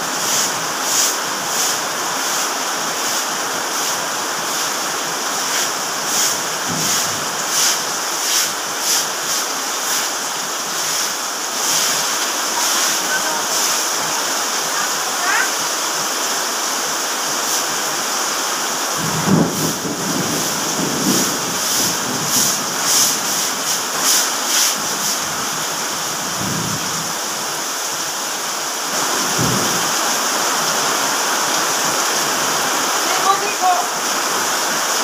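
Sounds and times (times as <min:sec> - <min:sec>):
heavy rain on pavement: 0:00.0 - 0:35.0.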